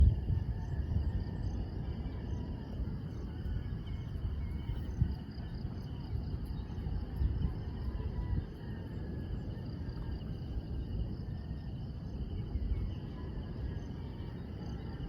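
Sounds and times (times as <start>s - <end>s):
chorus of insects: 0.0s - 15.0s.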